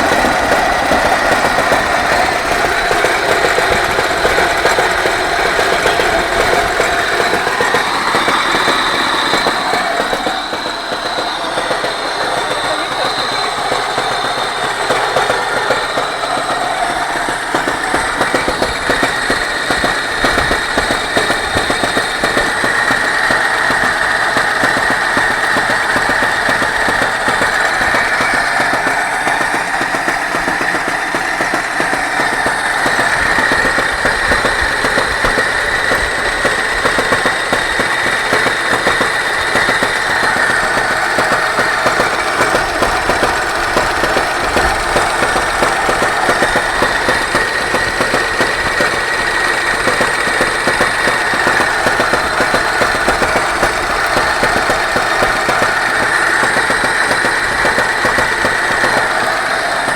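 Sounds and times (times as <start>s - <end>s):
car engine running: 0.0s - 59.9s
fast even engine knocking: 0.0s - 59.9s.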